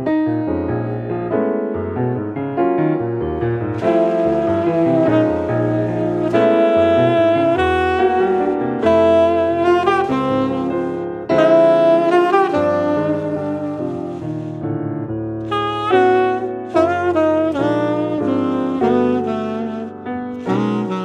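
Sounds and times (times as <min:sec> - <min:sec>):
piano chords: 0:00.0 - 0:21.0
tenor saxophone jazz melody: 0:03.4 - 0:21.0.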